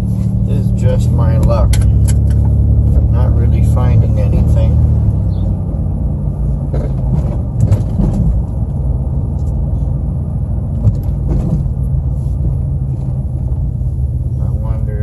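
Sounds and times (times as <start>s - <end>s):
car driving rumble inside cabin: 0.0s - 15.0s.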